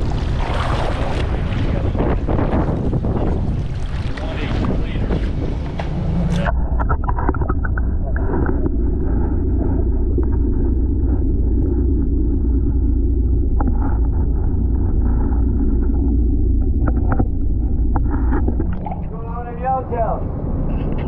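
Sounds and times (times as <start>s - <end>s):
low underwater rumble: 0.0s - 21.0s.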